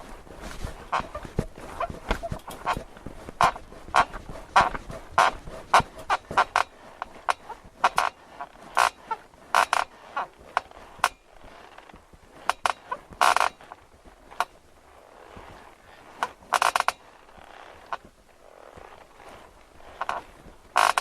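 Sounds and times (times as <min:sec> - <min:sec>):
bed frame creaking: 0:00.0 - 0:21.0.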